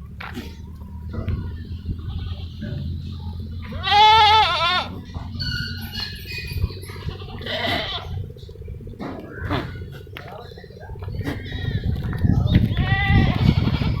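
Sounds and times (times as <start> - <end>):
goat bleating: 0.2 - 8.4, 9.2 - 10.3, 11.1 - 14.0.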